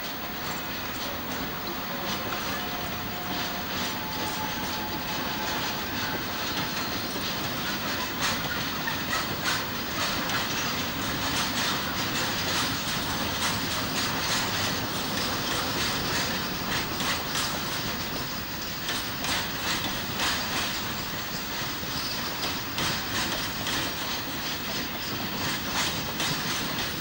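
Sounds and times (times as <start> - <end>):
steel wheels rumbling on rail: 0.0 - 27.0
wheels clicking over rail joints: 0.0 - 27.0.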